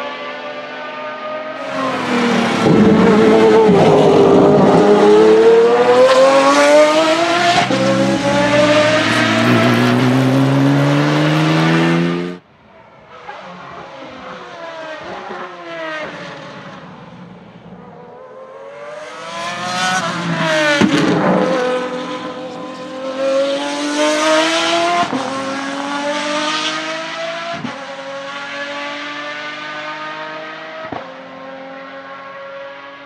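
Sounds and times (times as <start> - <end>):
race car engine passing: 0.9 - 33.0.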